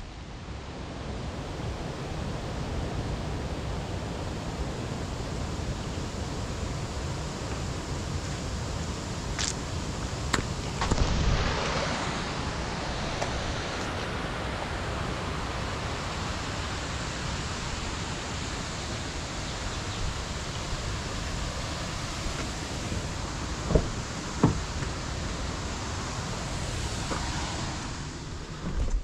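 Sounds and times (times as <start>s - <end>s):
outdoor air rushing: 0.0s - 29.0s
distant creek water: 1.1s - 28.9s.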